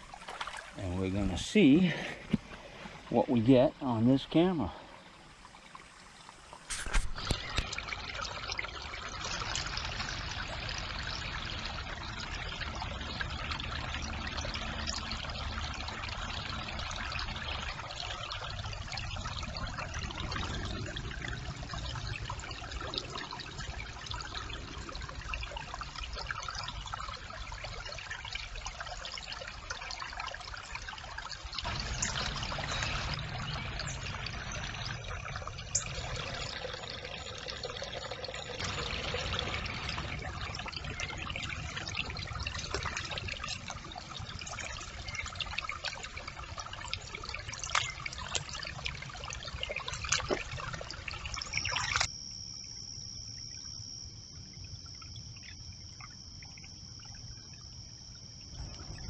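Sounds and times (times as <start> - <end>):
brook water trickling: 0.0 - 59.0.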